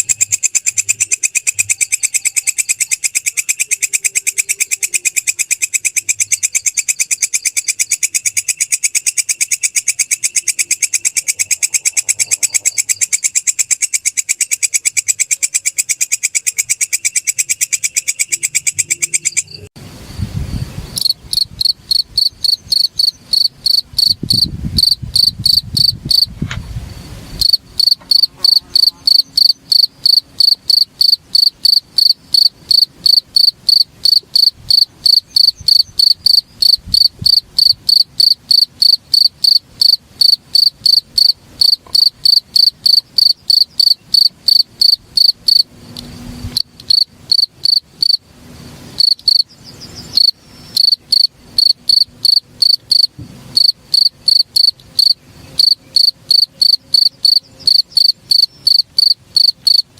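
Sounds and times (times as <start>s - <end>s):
insect buzzing trill: 0.0s - 20.3s, 21.0s - 48.2s, 50.1s - 59.9s
cricket chirping: 0.0s - 59.9s.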